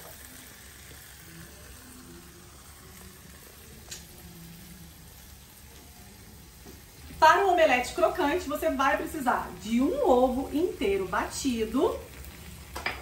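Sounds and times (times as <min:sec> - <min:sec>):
cheese sizzling in a frying pan: 0:00.0 - 0:13.0.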